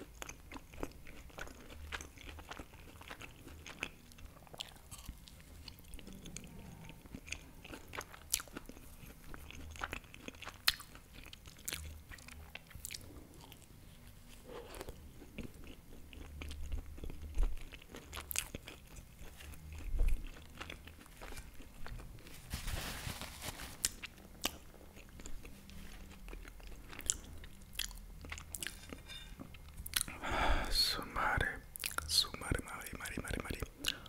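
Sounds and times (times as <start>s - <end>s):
biting and chewing pastry: 0.0s - 22.4s, 23.8s - 30.2s.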